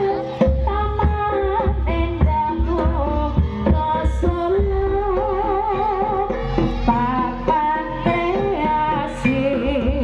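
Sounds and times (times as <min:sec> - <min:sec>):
drum strokes: 0:00.0 - 0:10.0.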